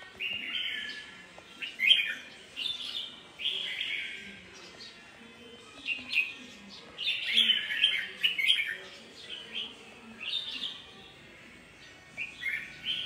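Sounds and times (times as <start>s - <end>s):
bird singing warbled phrases: 0.0s - 13.0s.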